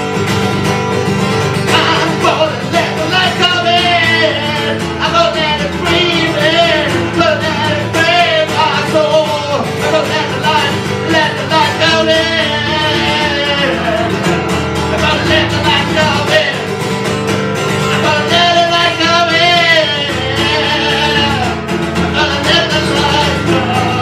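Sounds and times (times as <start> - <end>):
live band with guitar: 0.0 - 24.0
person singing: 1.7 - 16.8, 17.8 - 24.0.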